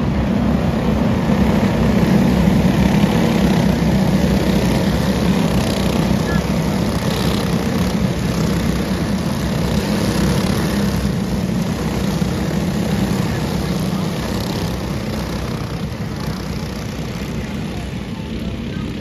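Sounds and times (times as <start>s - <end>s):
kart engines droning: 0.0s - 19.0s.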